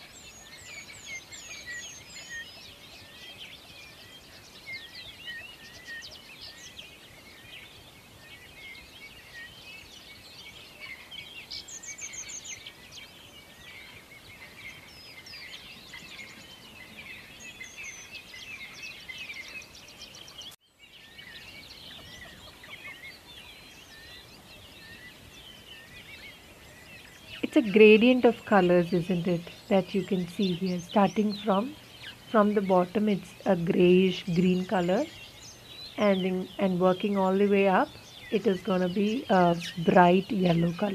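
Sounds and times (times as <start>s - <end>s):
low background hiss: 0.0s - 40.9s
small birds chirping and trilling: 0.0s - 40.9s.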